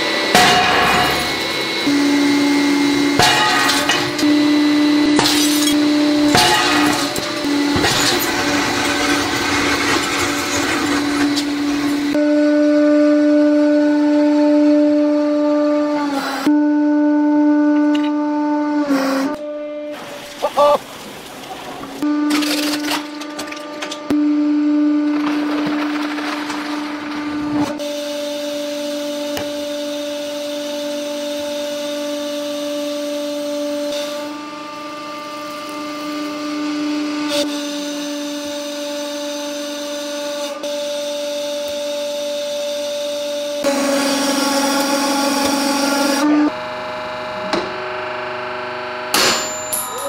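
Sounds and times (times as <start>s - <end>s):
hydraulic press pump hum: 0.0s - 49.9s.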